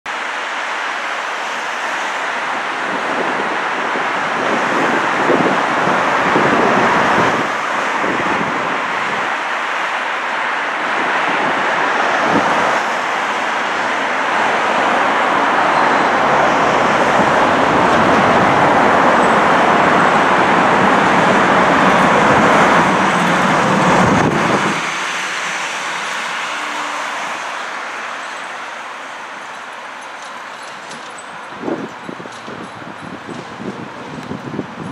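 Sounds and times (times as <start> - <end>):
freeway traffic rushing: 0.1 - 34.9.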